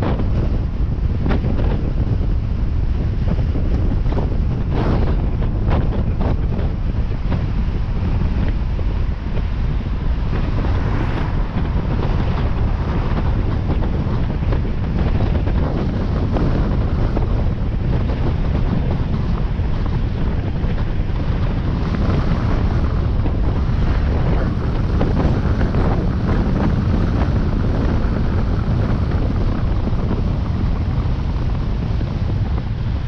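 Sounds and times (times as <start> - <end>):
road noise rumble: 0.0 - 33.0
wind buffeting microphone: 0.0 - 33.0.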